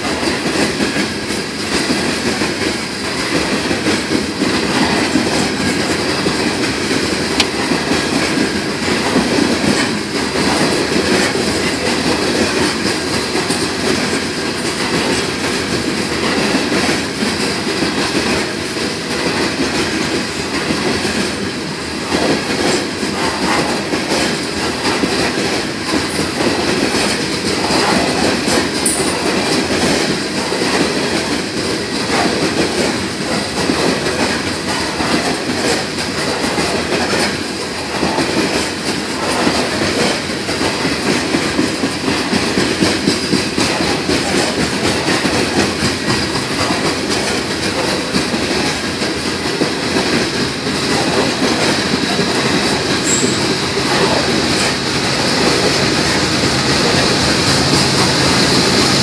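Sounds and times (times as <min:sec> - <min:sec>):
train wheels rolling on rail: 0:00.0 - 0:59.0
wheels clacking over rail joints: 0:00.0 - 0:59.0.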